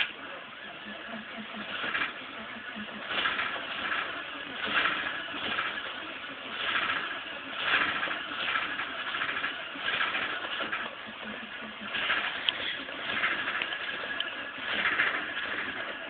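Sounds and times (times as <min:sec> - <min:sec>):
engine cranking without starting: 0:00.0 - 0:16.0.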